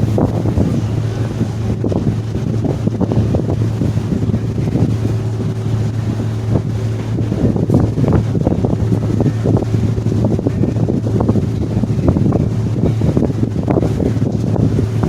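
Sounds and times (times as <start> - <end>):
ferry engines humming: 0.0 - 15.0
wind gusting on microphone: 0.0 - 15.0.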